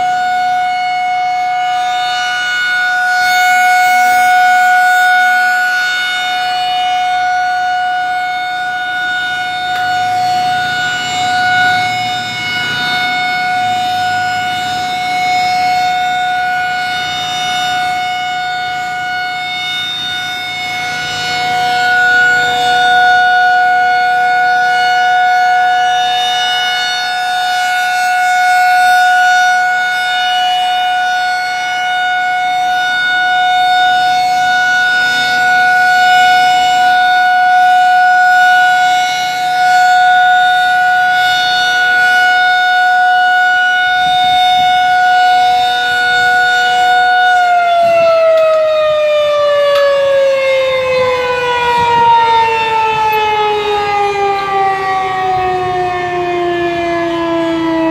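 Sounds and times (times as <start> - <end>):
warning siren steady tone: 0.0 - 57.9.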